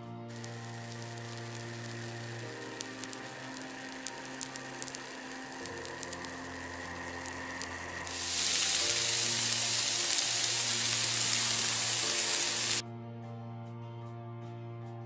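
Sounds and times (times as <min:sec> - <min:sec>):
batter sizzling in a hot pan: 0:00.3 - 0:12.8
faint crackling: 0:00.3 - 0:12.8.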